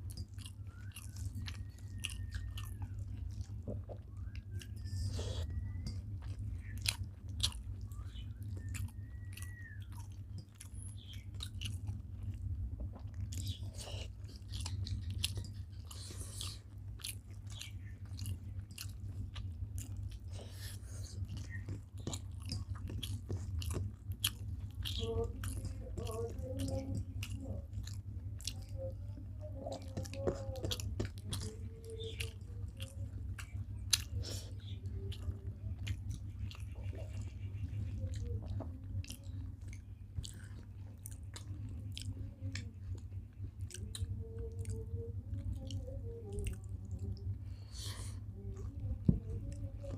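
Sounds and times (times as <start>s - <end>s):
people chewing food: 0.0s - 49.9s
steady low hum: 0.0s - 49.9s.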